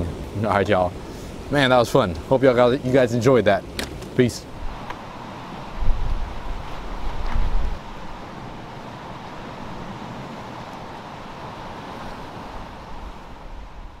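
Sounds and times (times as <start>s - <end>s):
surf breaking on rocky shore: 0.0s - 14.0s
wind buffeting microphone: 0.0s - 14.0s.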